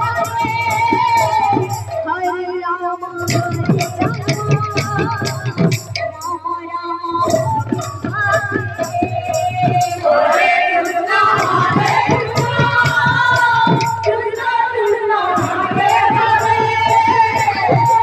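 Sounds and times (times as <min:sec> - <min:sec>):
steady percussion beat: 0:00.0 - 0:02.4, 0:03.0 - 0:06.4, 0:07.2 - 0:18.0
women singing through pa: 0:00.0 - 0:18.0.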